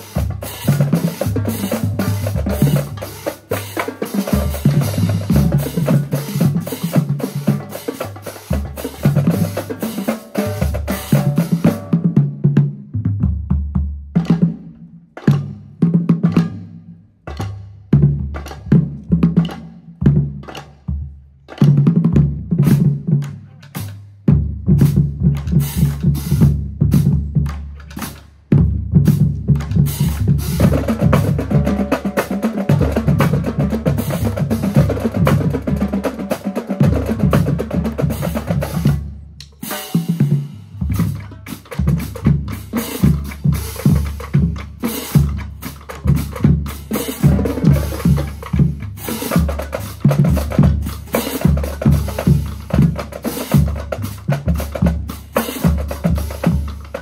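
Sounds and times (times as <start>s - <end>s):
bass drums: 0.0s - 7.8s, 8.5s - 16.5s, 17.2s - 57.0s
snare drums: 0.0s - 57.0s
tenor drums: 0.0s - 57.0s.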